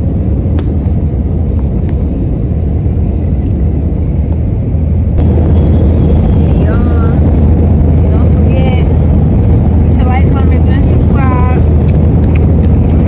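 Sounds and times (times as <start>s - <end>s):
jet cabin rumble: 0.0s - 13.0s.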